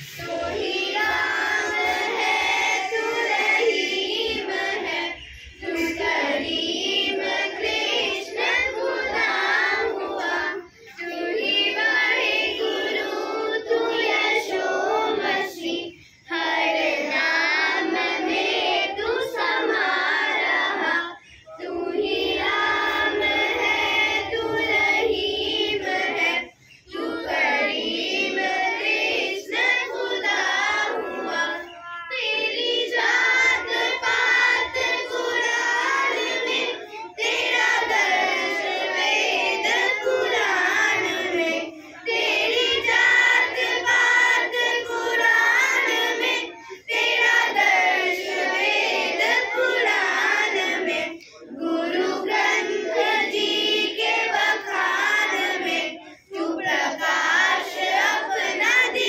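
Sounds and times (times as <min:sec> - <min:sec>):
children singing in chorus: 0:00.0 - 0:59.0.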